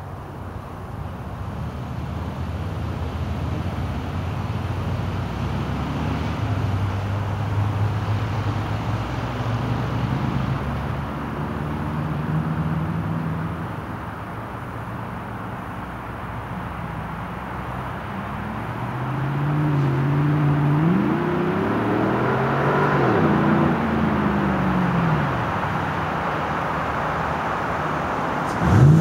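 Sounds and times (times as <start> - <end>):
car exhaust rumble: 0.0 - 29.0.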